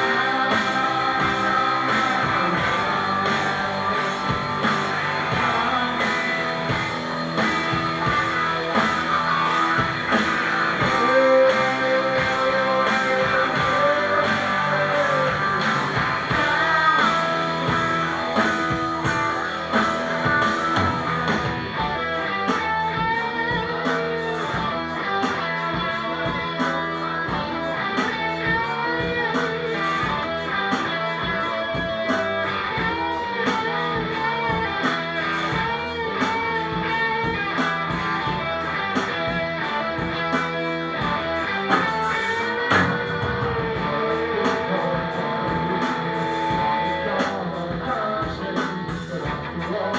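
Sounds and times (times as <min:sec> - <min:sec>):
drum beat: 0:00.0 - 0:49.5
electric guitar: 0:00.0 - 0:49.9.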